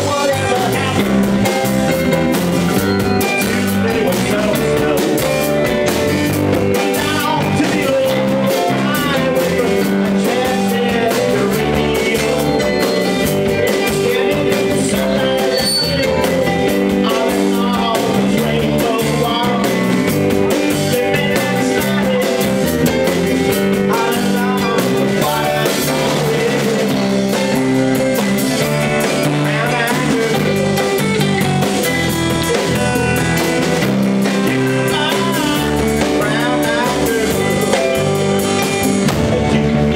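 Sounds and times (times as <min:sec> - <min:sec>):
man singing: 0:00.0 - 0:33.2, 0:34.2 - 0:39.9
bass guitar: 0:00.0 - 0:39.9
drum kit: 0:00.0 - 0:39.9
electric guitar: 0:00.0 - 0:39.9
hammond organ: 0:00.0 - 0:39.9.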